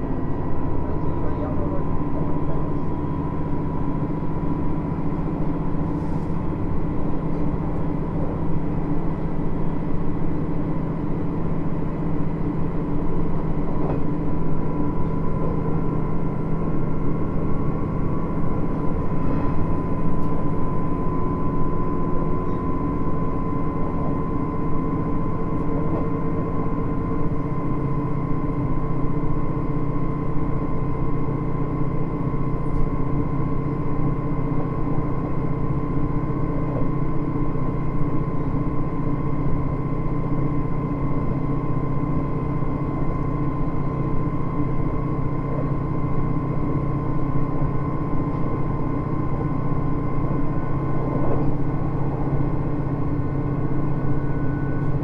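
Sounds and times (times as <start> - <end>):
diesel engine droning: 0.0 - 55.0
steady high whine: 0.0 - 55.0
wheels rumbling on rail: 0.0 - 55.0.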